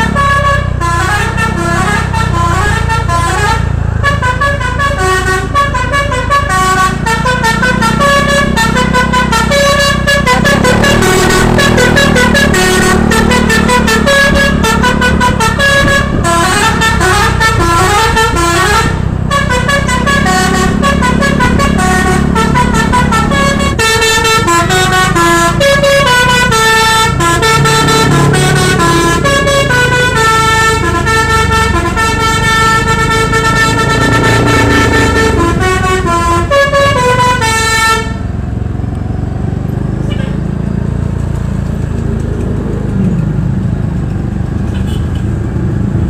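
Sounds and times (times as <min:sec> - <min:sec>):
musical bus horn melody: 0:00.0 - 0:38.7, 0:40.0 - 0:40.6
bus engine rumble: 0:00.0 - 0:46.0.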